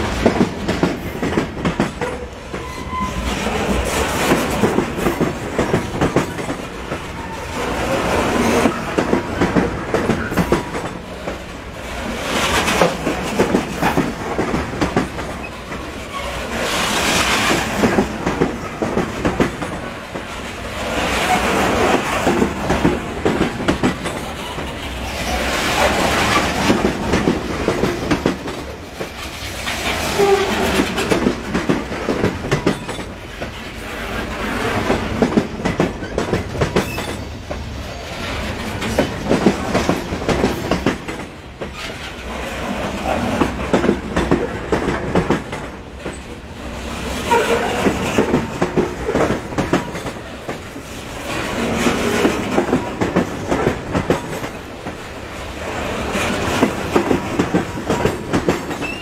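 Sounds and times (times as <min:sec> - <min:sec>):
train wheels clattering: 0:00.0 - 0:59.0.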